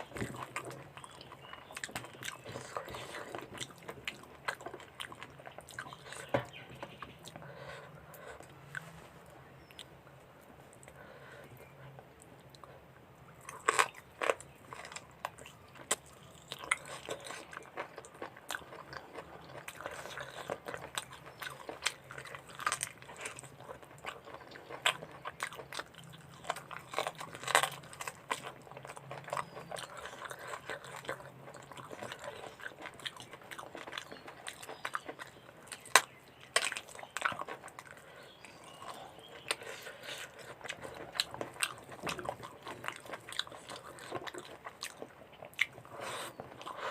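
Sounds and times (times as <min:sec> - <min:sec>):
wet chewing: 0:00.0 - 0:08.8, 0:13.4 - 0:46.9.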